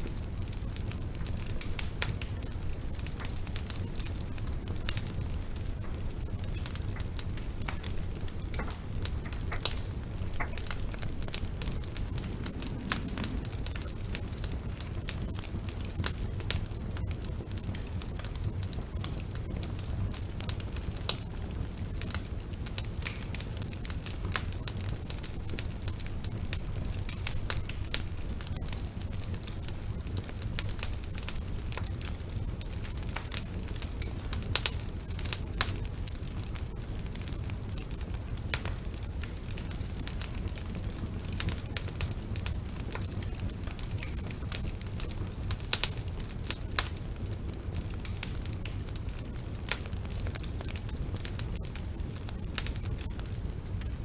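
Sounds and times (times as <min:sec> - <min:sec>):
fire crackling and popping: 0:00.0 - 0:54.0
flames rumbling: 0:00.0 - 0:54.0.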